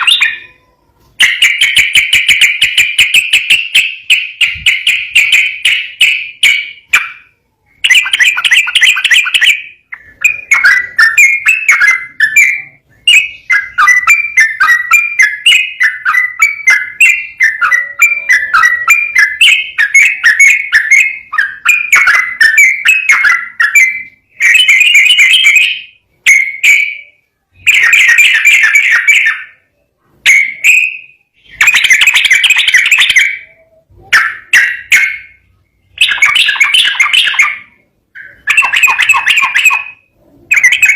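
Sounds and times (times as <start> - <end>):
bulbul singing chattering phrases: 0.0 - 40.9.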